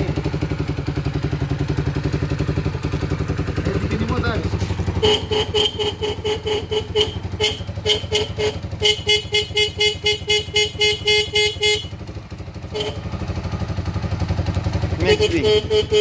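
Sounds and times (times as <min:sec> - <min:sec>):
atv engine idling: 0:00.0 - 0:16.0.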